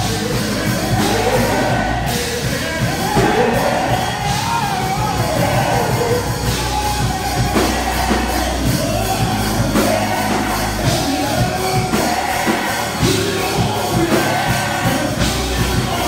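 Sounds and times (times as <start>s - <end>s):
band playing gospel music: 0.0s - 16.0s.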